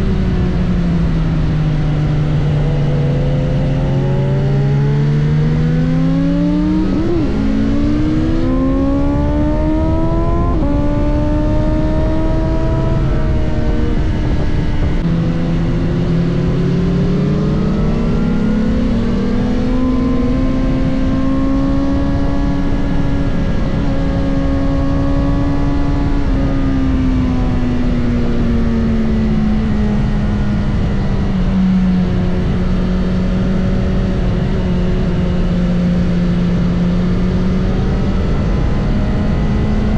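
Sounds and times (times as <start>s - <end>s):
motorcycle engine revving through gears: 0.0s - 39.9s
rush of wind: 0.0s - 39.9s.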